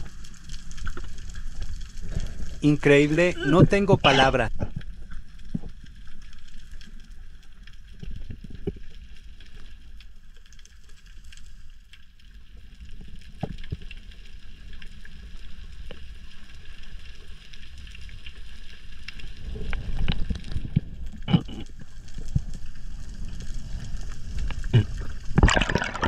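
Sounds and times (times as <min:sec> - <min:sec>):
faint crackling: 0:00.0 - 0:26.0
underwater rumble: 0:00.0 - 0:26.0.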